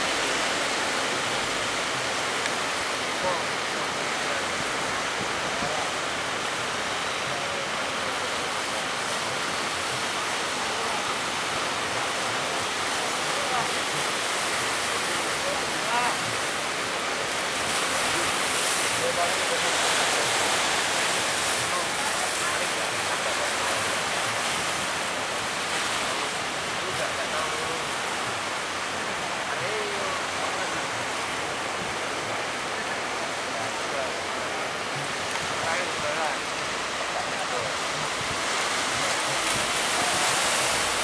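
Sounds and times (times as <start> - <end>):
surf breaking on shore: 0.0 - 41.0.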